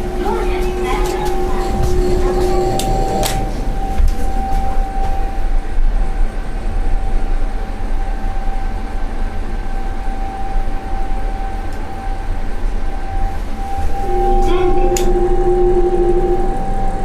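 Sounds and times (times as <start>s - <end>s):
elevator high whine: 0.0s - 17.0s
elevator low rumble: 0.0s - 17.0s.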